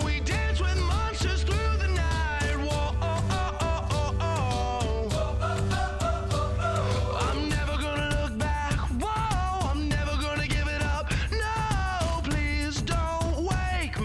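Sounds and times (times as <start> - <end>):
pop song with singing: 0.0 - 14.0.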